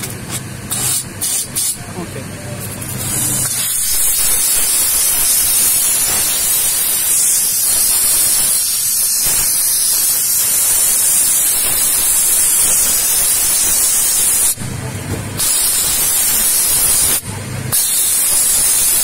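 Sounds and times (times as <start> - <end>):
steam jet hissing: 0.7 - 1.8, 3.0 - 14.6, 15.4 - 19.0.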